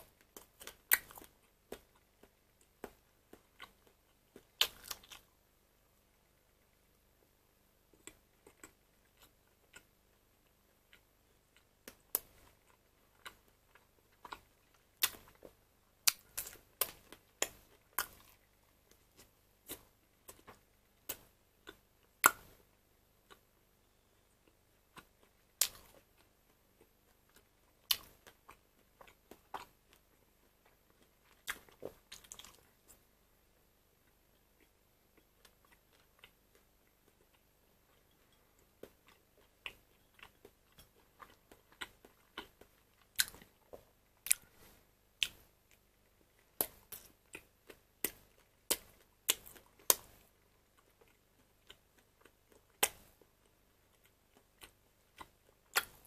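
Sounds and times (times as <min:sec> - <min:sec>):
wet chewing and mouth smacks: 0:00.2 - 0:05.3, 0:07.9 - 0:22.5, 0:24.4 - 0:33.0, 0:34.0 - 0:56.0.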